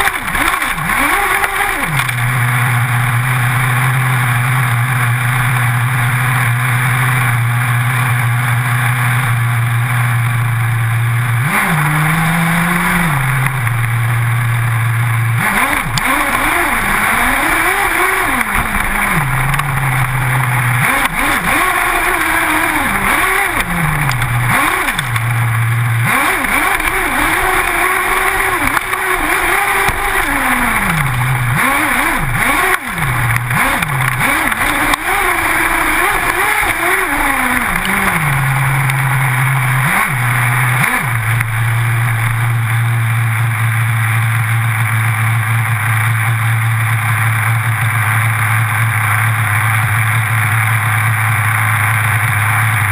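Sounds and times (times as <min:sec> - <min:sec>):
model car engine revving: 0:00.0 - 0:52.9
tyres on gravel: 0:00.0 - 0:52.9.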